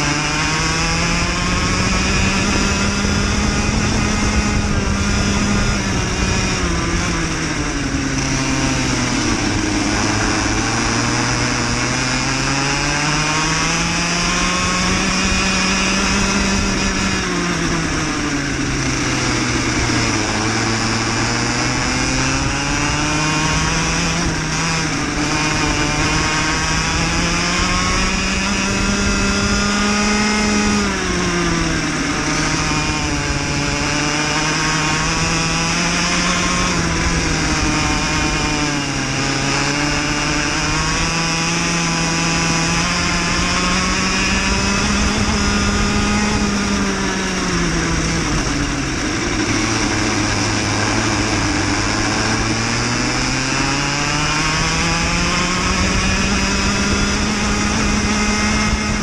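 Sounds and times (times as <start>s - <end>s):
kart engine racing: 0.0s - 59.0s.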